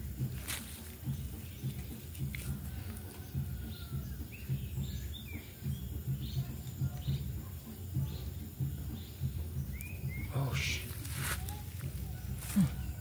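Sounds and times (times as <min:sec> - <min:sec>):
bird chirps and calls: 0:00.5 - 0:13.0.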